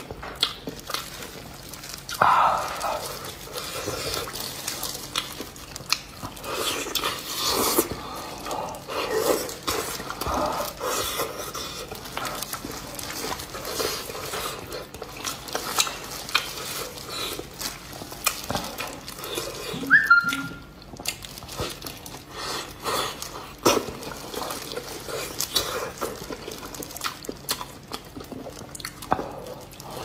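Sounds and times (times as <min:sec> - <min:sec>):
chewing and mouth sounds: 0:00.0 - 0:30.0
wet tearing and squelching: 0:00.4 - 0:29.1.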